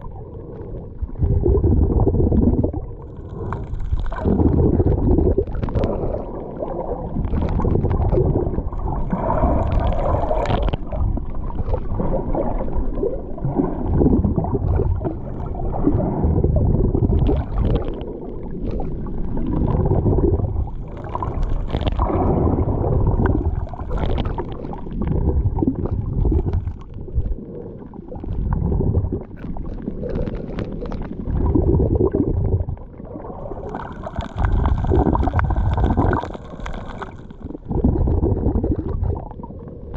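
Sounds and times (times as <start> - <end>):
sea water sloshing and gurgling: 0.0 - 39.9
low rumble: 7.1 - 39.9.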